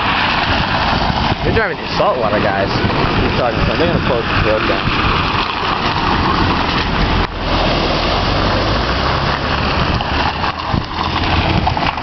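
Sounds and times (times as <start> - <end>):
car engine running: 0.0 - 12.0
hurricane wind: 0.0 - 12.0.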